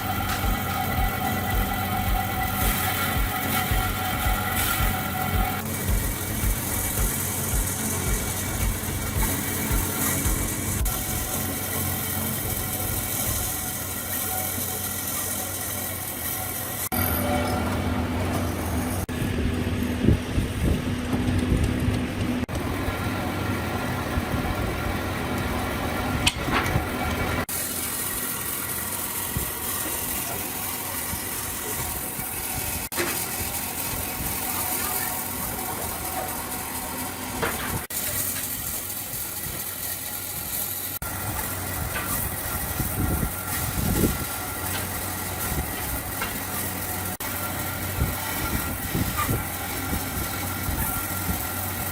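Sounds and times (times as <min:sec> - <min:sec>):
workshop machinery humming: 0:00.0 - 0:51.9.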